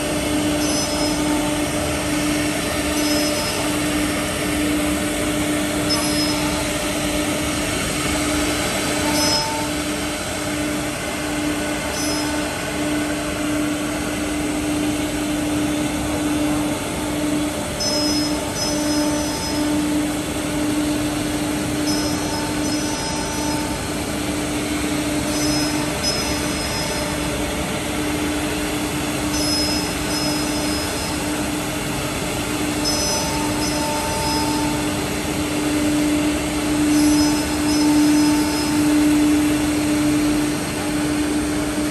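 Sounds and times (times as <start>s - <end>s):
wood router whine and hiss: 0.0s - 41.9s.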